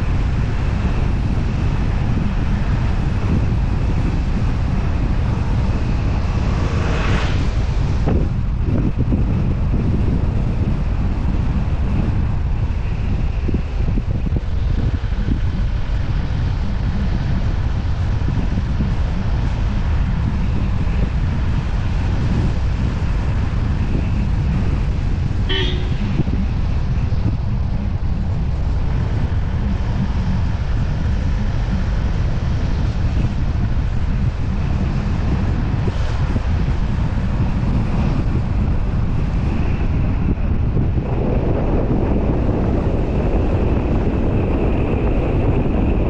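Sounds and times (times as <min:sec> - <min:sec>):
tyres on wet road: 0:00.0 - 0:46.0
wind buffeting camera: 0:00.0 - 0:46.0.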